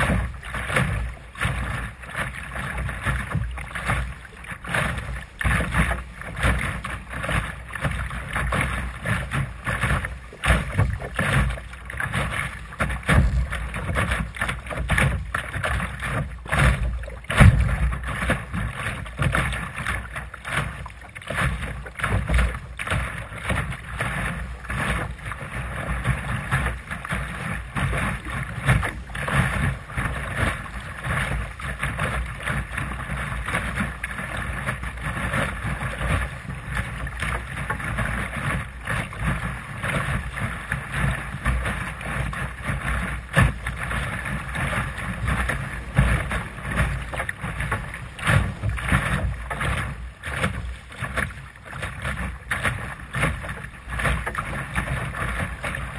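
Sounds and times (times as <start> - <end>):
water rushing along boat hull: 0.0 - 55.9
wind rumble on microphone: 0.0 - 55.9.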